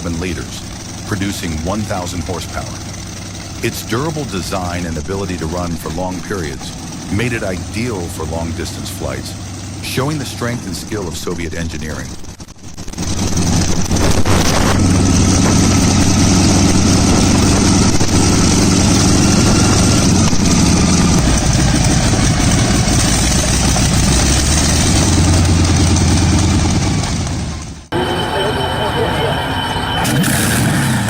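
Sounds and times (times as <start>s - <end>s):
radial aircraft engine running: 0.0s - 31.0s.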